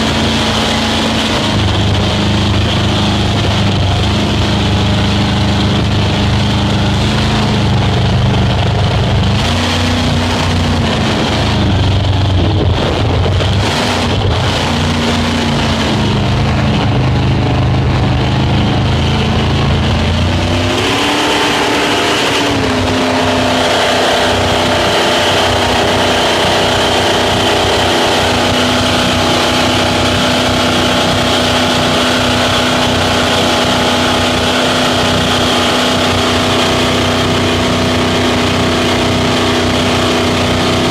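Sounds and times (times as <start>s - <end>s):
rushing noise: 0.0s - 40.9s
speedboat engine running: 0.0s - 40.9s.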